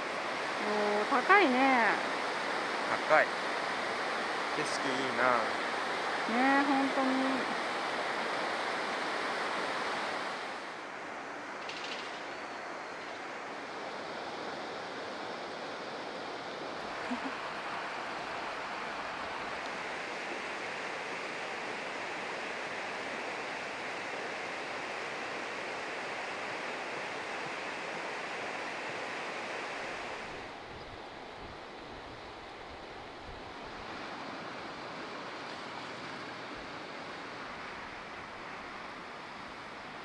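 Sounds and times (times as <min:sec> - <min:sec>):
rushing outdoor hiss: 0:00.0 - 0:40.0.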